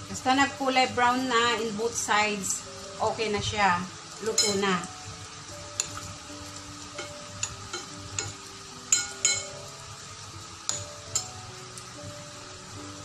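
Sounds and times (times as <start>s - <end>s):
faint background music: 0.0s - 13.0s
fritters sizzling in oil: 0.0s - 13.0s.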